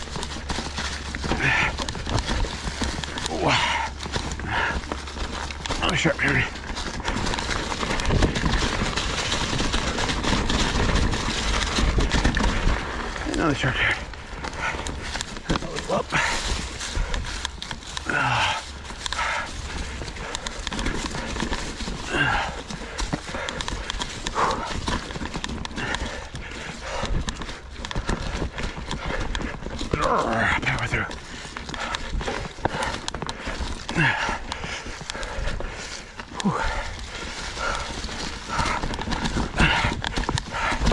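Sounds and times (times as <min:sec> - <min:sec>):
bike rattling and clattering: 0:00.0 - 0:40.9
steady low rumble: 0:00.0 - 0:40.9
tyres crunching over rocks: 0:00.0 - 0:40.9.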